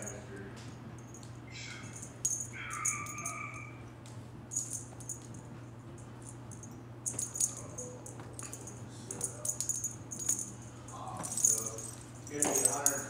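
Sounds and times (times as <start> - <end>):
light metallic jingling: 0.0 - 3.8, 4.5 - 13.0
steady low hum: 0.0 - 13.0.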